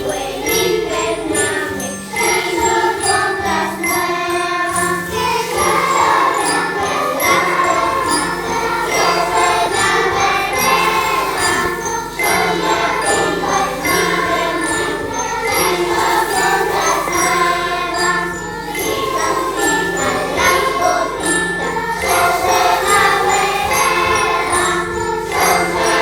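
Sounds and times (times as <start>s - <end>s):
children's choir singing: 0.0s - 26.0s
high jingling percussion: 0.0s - 26.0s.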